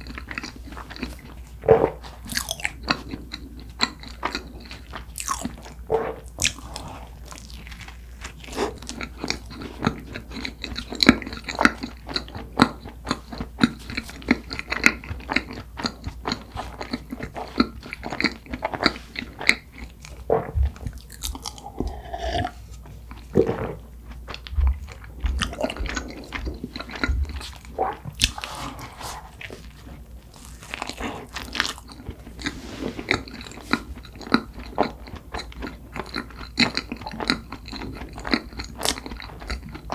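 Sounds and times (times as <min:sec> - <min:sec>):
buns being bitten and chewed: 0:00.0 - 0:39.9.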